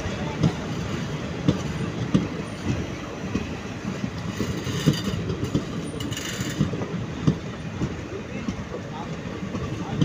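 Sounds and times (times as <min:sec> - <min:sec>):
train rumble: 0:00.0 - 0:10.0
train wheels clacking over rail joints: 0:00.0 - 0:10.0.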